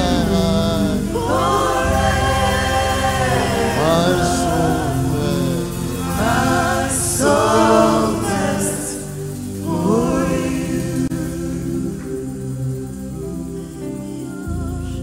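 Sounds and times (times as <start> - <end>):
man singing lead: 0.0 - 12.5
congregation singing: 0.0 - 15.0
sustained backing chords: 0.0 - 15.0
women backing singers: 0.0 - 15.0.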